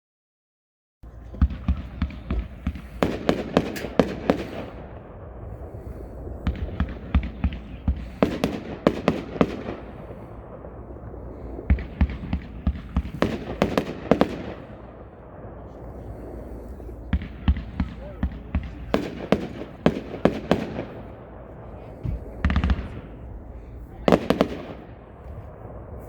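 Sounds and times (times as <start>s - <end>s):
fireworks cake sharp bangs: 1.1s - 26.0s.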